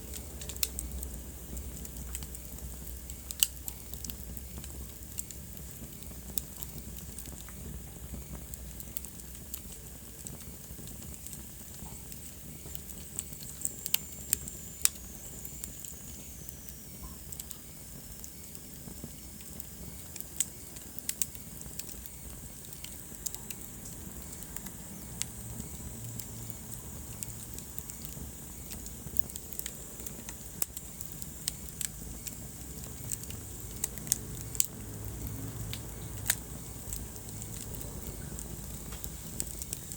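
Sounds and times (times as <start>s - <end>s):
flames rumbling and hissing: 0.0s - 39.9s
logs crackling and popping: 0.0s - 39.9s.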